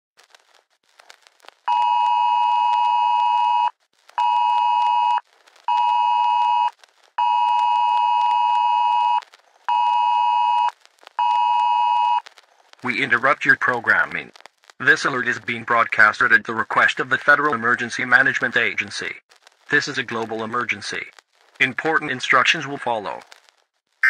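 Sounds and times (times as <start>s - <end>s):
faint crackling clicks: 0.2s - 24.0s.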